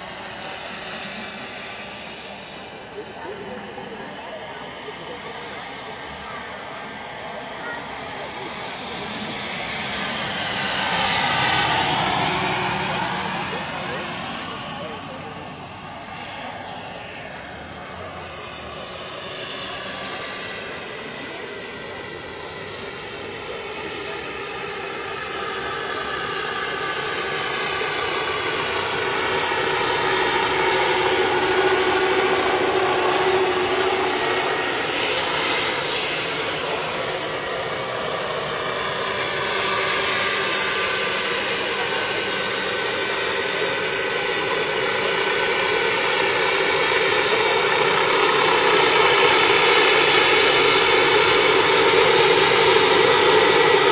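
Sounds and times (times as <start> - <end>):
helicopter rotor noise: 0.0 - 53.9
helicopter turbine whine: 0.0 - 53.9.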